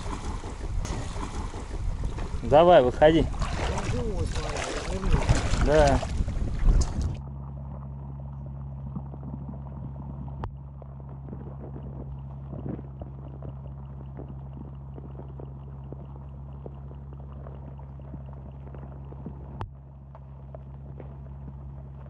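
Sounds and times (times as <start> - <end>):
muffled underwater hum: 0.0 - 22.0.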